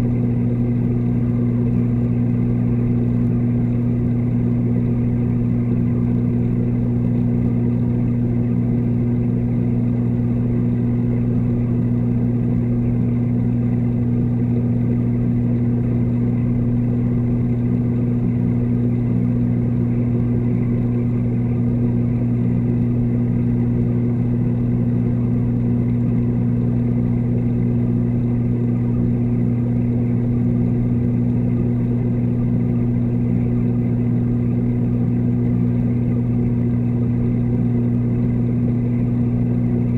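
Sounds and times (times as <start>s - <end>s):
aquarium pumps humming underwater: 0.0s - 39.9s.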